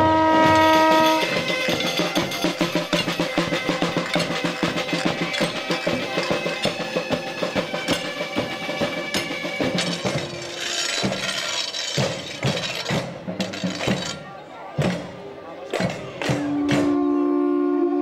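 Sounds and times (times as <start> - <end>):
drums beating: 0.0 - 17.2.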